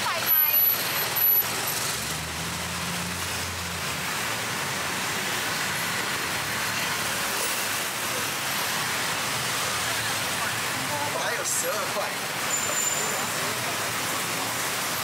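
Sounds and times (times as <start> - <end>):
passing cars: 0.0 - 15.0.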